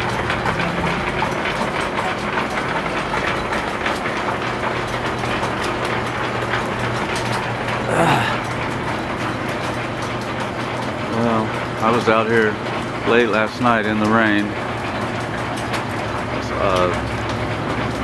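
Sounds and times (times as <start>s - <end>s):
line shaft clattering rattle: 0.0s - 18.0s.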